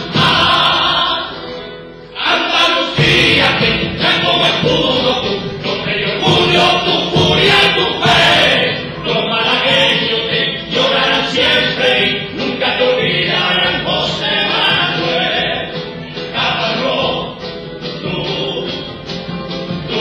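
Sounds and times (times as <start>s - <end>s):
choir singing with music: 0.0s - 20.0s.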